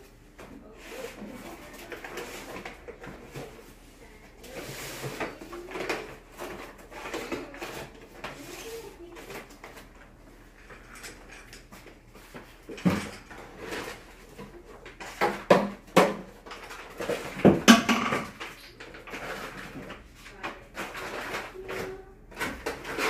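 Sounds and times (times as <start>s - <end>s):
handling knocks and rustles: 0.0s - 23.0s.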